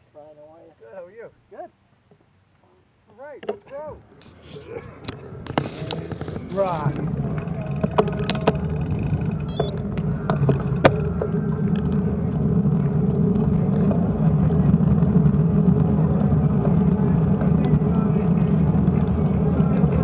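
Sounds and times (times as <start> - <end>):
wind and road rumble: 2.0 - 20.0.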